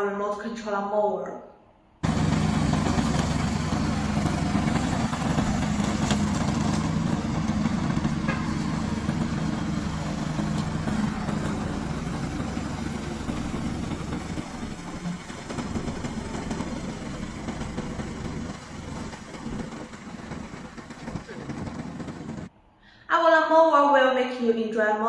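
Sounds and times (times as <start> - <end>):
small engine running: 2.0 - 22.5.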